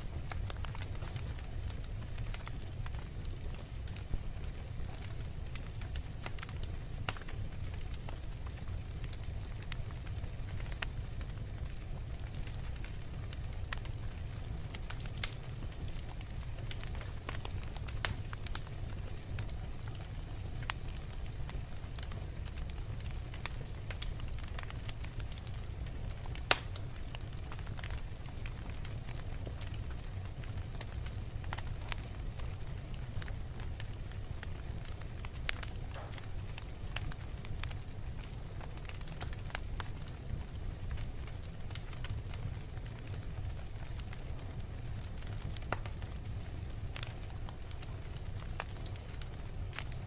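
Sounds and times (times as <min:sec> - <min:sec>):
fire flames rumbling: 0:00.0 - 0:50.0
logs crackling and popping: 0:00.0 - 0:50.0.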